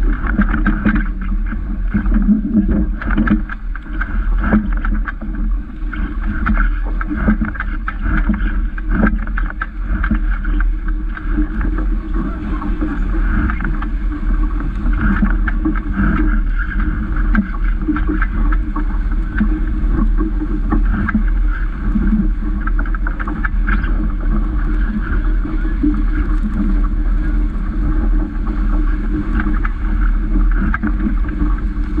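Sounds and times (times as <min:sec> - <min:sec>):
water splashing along boat hull: 0:00.0 - 0:32.0
wind rumble on microphone: 0:00.0 - 0:32.0.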